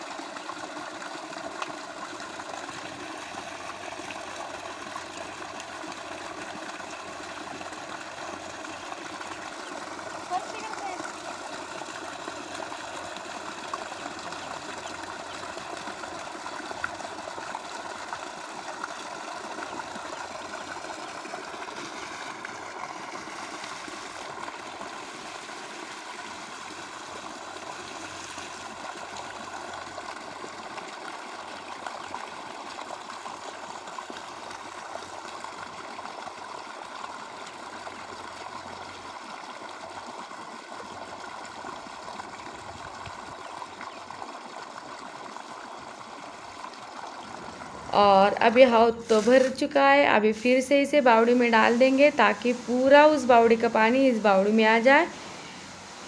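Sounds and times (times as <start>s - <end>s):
water gushing from hose into trough: 0.0s - 56.0s.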